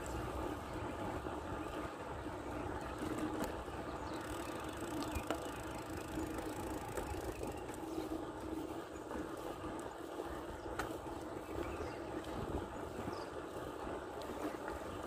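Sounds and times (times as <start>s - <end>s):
bicycle rolling: 0.0s - 15.0s.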